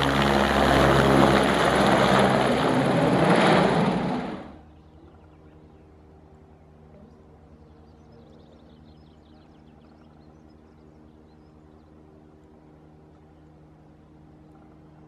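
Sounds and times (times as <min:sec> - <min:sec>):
distant helicopter drone: 0:00.0 - 0:15.0.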